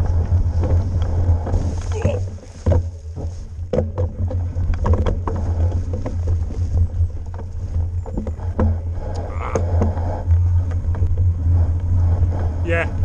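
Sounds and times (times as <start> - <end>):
bike knocking and rattling: 0.0 - 13.0
wind and tyre rumble: 0.0 - 13.0.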